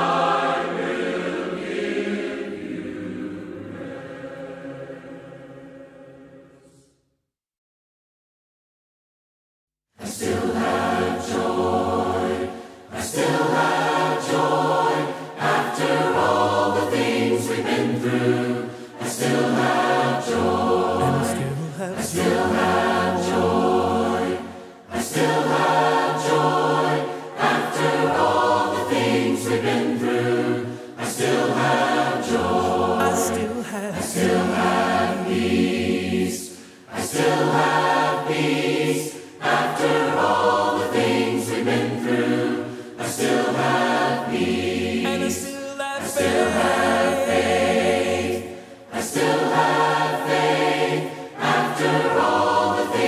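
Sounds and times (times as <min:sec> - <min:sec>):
choir singing a hymn: 0:00.0 - 0:06.9, 0:10.0 - 0:53.0.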